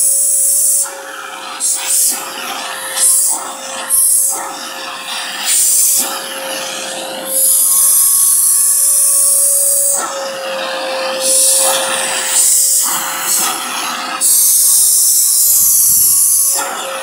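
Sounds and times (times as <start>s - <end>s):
suction air rushing: 0.0s - 17.0s
vacuum cleaner motor whine: 0.0s - 17.0s.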